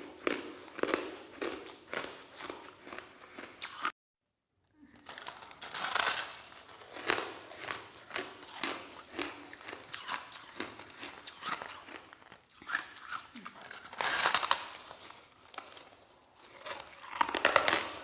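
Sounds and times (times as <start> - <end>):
crushed ice being chewed: 0.0 - 3.9, 4.8 - 18.0.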